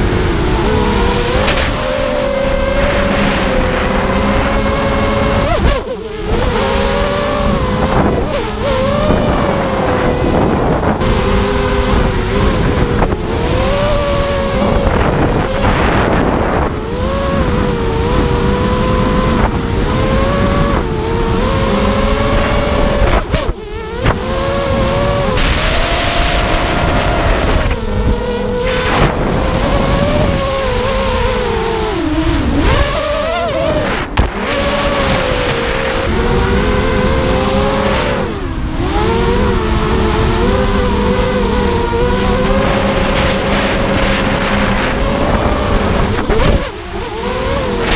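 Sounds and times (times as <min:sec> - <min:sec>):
drone motors buzzing whine: 0:00.0 - 0:47.9.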